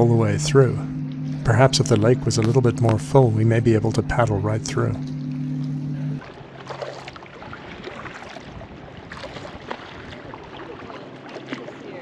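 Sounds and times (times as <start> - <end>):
water lapping around a kayak: 0.0 - 12.0.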